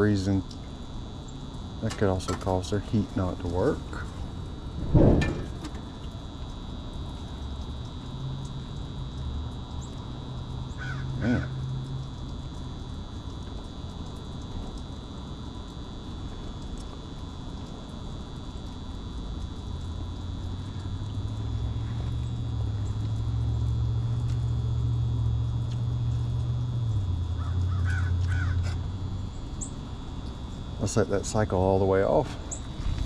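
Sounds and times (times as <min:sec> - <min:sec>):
furnace motor humming: 0:00.0 - 0:33.0.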